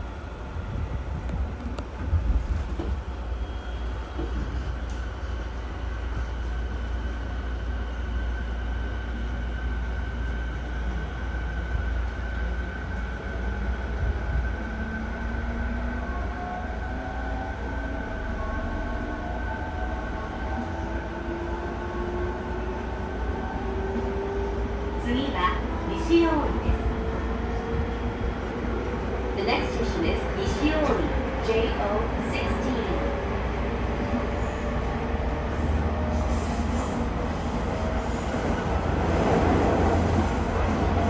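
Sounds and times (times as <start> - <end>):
train wheels rumbling on rails: 0.0 - 15.8, 19.0 - 41.0.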